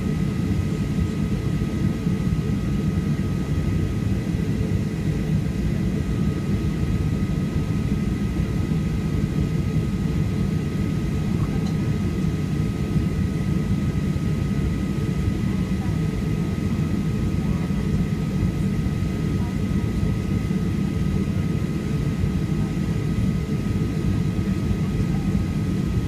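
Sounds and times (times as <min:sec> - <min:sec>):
jet engines idling rumble: 0:00.0 - 0:26.0.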